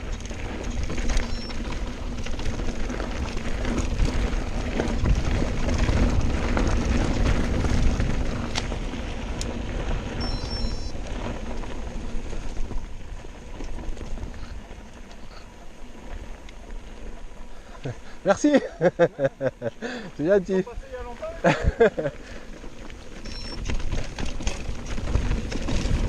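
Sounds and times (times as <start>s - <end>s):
bike tyres rattling over trail: 0.0s - 26.0s.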